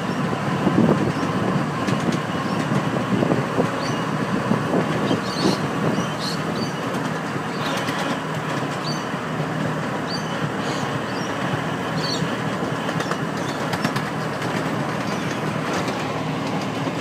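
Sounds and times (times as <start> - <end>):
miniature train rumbling on rails: 0.0 - 17.0.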